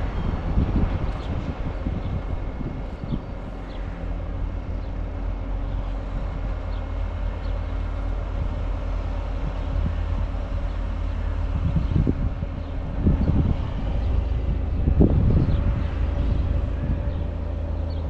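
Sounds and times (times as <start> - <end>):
diesel farm machinery running: 0.0 - 18.0.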